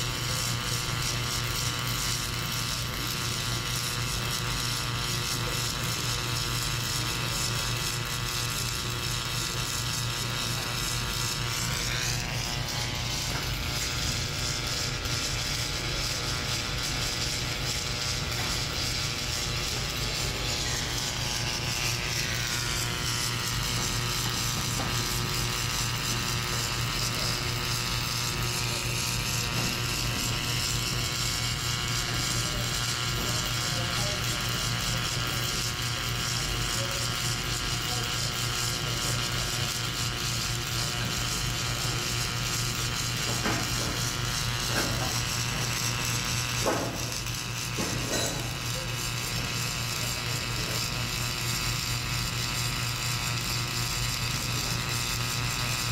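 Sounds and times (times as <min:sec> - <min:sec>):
welding machine hum with hiss: 0:00.0 - 0:55.9.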